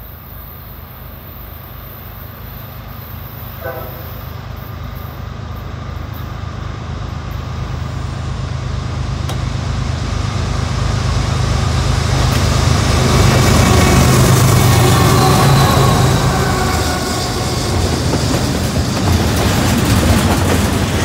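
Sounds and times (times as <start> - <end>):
diesel locomotive engine drone: 0.0 - 21.0
rail and wheel noise: 0.0 - 21.0.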